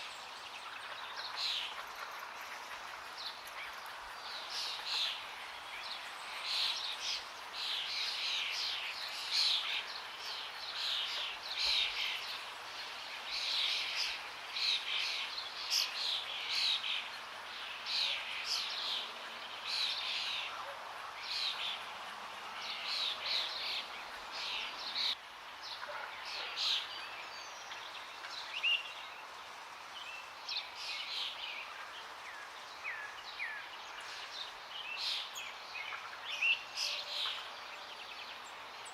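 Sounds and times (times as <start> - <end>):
songbirds singing and chirping: 0.0 - 38.9
steady background hiss: 0.0 - 38.9.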